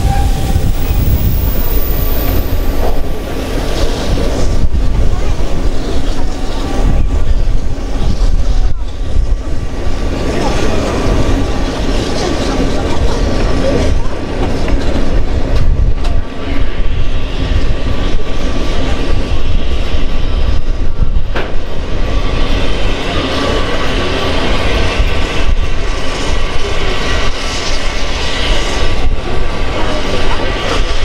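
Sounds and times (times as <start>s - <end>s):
train wheels on rail: 0.0s - 31.0s.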